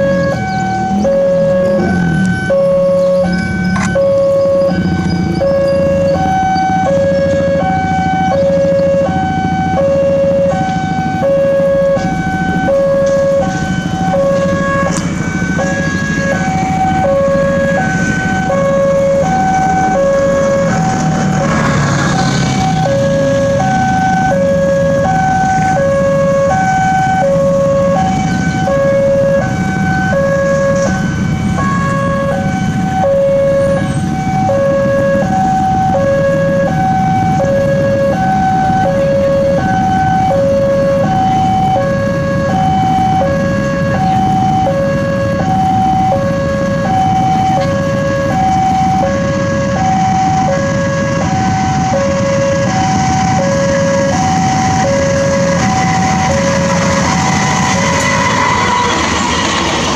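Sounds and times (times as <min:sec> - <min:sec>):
level crossing two-tone alarm: 0:00.0 - 0:59.9.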